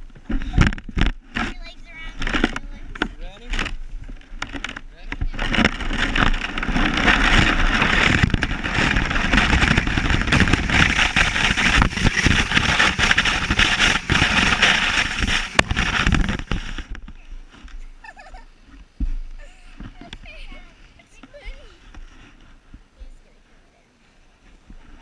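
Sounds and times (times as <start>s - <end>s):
sled knocking over bumps: 0.0s - 23.2s
sled scraping over crusty snow: 0.0s - 23.6s.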